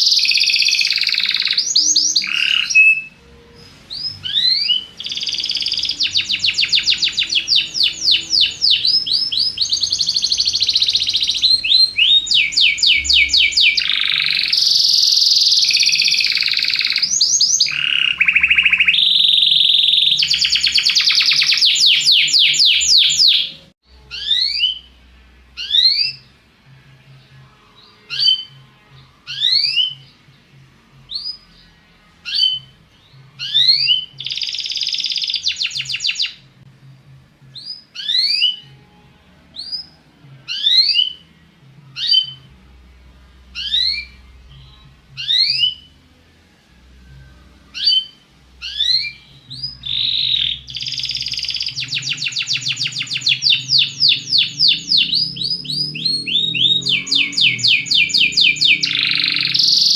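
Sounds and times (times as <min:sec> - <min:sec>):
canary singing trills and whistles: 0:00.0 - 0:26.4, 0:27.2 - 0:30.4, 0:31.0 - 0:36.5, 0:37.5 - 0:41.3, 0:41.9 - 0:42.6, 0:43.4 - 0:46.1, 0:47.3 - 0:59.9.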